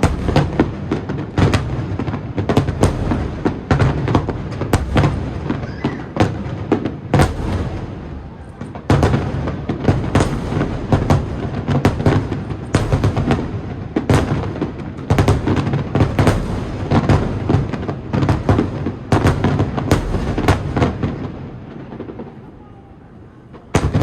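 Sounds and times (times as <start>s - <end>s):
fireworks bursting with echo: 0.0s - 24.0s.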